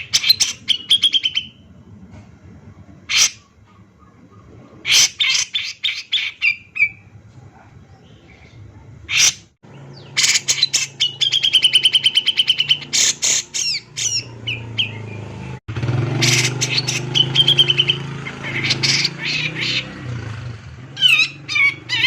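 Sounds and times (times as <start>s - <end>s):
bulbul harsh calls and trills: 0.0s - 1.7s, 2.8s - 22.0s.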